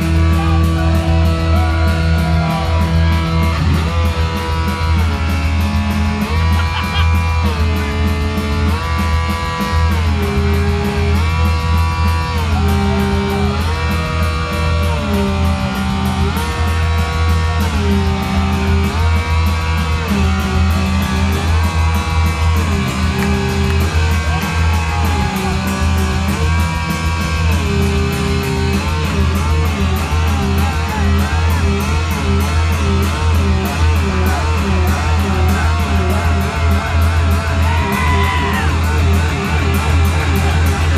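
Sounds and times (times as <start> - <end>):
electric guitar lead: 0.0 - 40.9
heavy metal band playing live: 0.0 - 40.9
low bass drone: 0.0 - 40.9.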